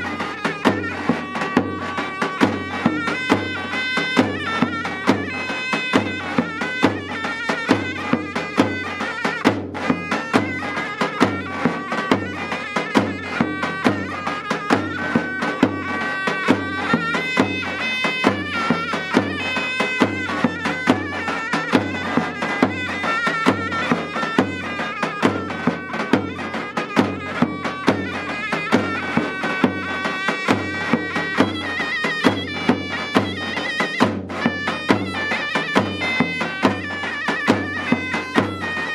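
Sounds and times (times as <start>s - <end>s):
bass drum beating steady rhythm: 0.0s - 38.9s
shawm playing folk melody: 0.0s - 38.9s.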